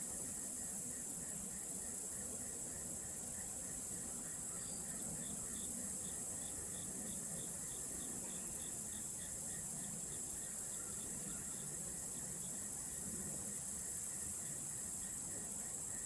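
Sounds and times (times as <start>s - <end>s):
crickets chirping: 0.0s - 16.0s
insects hissing: 0.0s - 16.0s.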